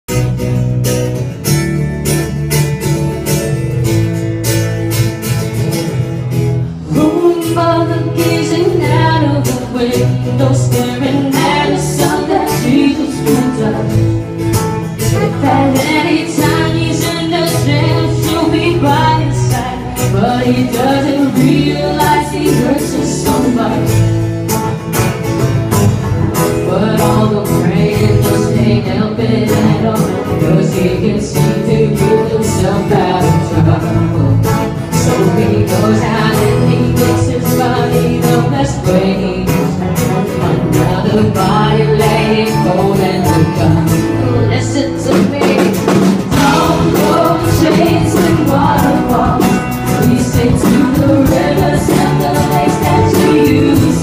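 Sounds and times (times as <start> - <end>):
live band music with guitar: 0.1 - 54.0
repeating bass line: 8.0 - 54.0.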